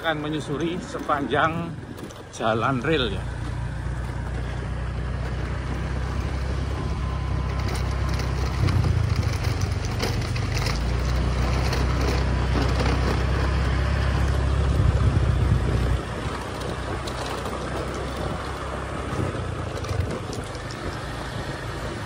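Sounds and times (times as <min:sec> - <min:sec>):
motorcycle engine running: 0:00.0 - 0:22.0
tyres crunching over gravel: 0:00.0 - 0:22.0.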